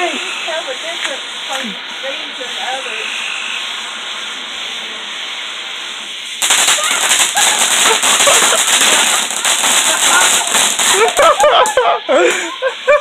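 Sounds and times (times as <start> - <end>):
firework crackling: 0.0 - 13.0
fountain firework hissing: 0.0 - 13.0.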